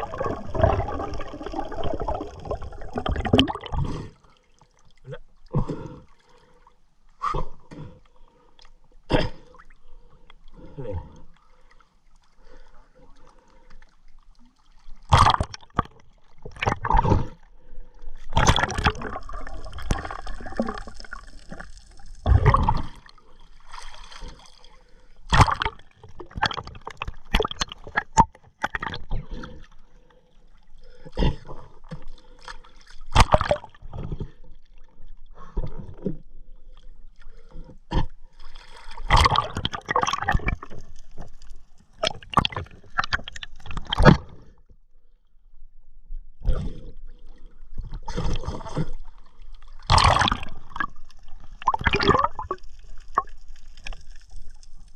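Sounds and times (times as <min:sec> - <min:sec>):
water sloshing and gurgling: 0:00.0 - 0:54.9.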